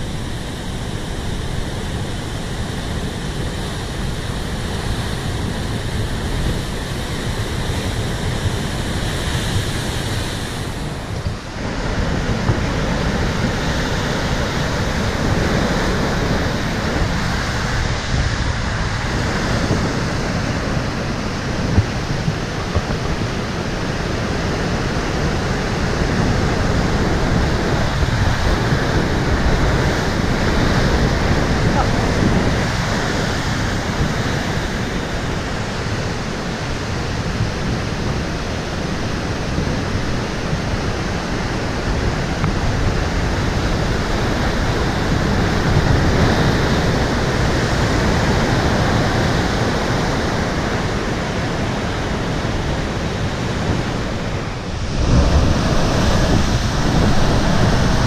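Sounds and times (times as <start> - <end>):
ocean surf breaking over rocks: 0.0 - 58.0.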